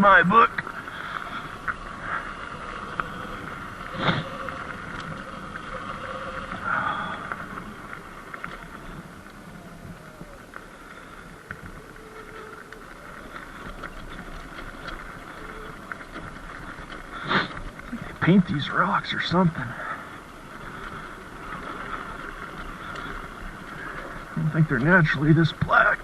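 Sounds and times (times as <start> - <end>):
electric dirt bike running: 0.0 - 26.0
tyres on loose gravel: 0.0 - 26.0.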